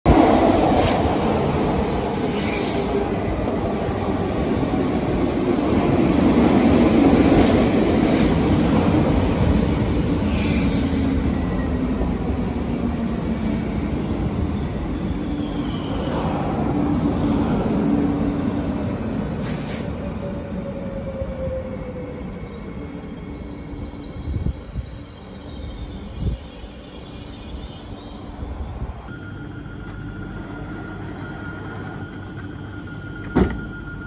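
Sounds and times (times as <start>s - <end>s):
train running noise: 0.1s - 34.0s.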